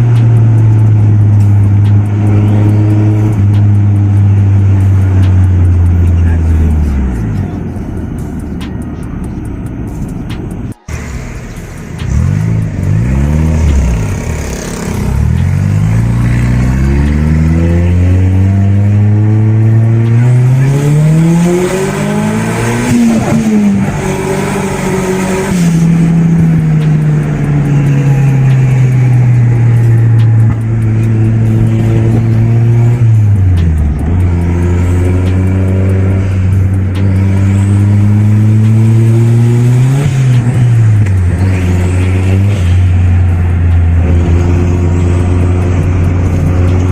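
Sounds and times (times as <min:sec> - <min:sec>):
turbocharged engine running under load: 0:00.0 - 0:46.9.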